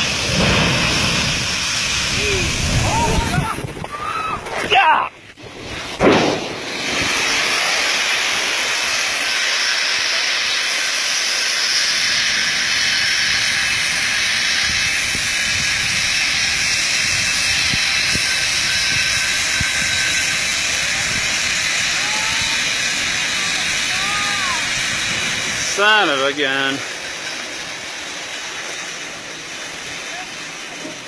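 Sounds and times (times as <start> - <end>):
corn pouring with rushing hiss: 0.0 - 31.0.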